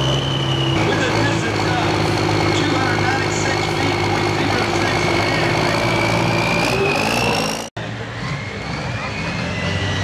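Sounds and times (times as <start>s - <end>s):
diesel tractor running under load: 0.0s - 10.0s
second diesel tractor with whine: 0.0s - 10.0s.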